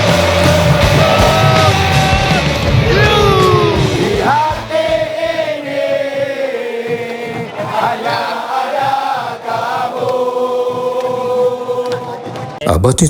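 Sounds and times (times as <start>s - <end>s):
group chanting in unison: 0.0s - 12.6s.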